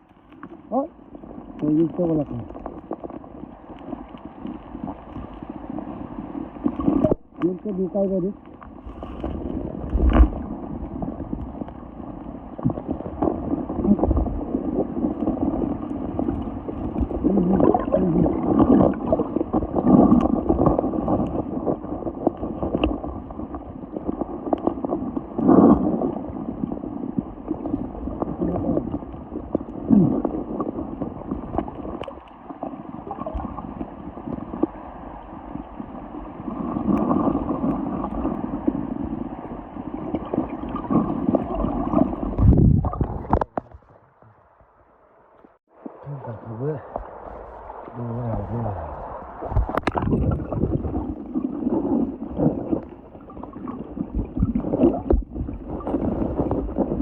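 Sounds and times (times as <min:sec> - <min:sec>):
water splashes: 0:00.0 - 0:44.6, 0:45.4 - 0:57.0
water sloshing and gurgling: 0:00.0 - 0:57.0.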